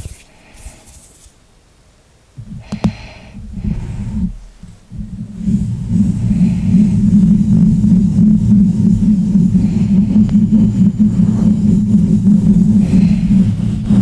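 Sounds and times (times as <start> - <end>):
hands rubbing against microphone: 2.4 - 14.0.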